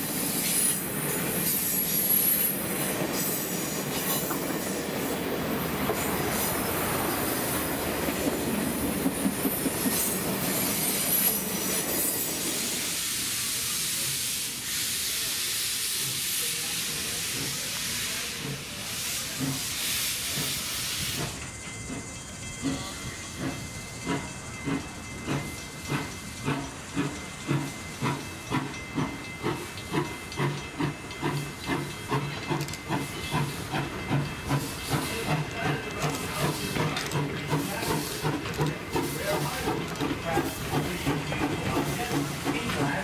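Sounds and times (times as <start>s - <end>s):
steam hissing: 0.0s - 43.0s
steam locomotive chuffing: 0.0s - 43.0s.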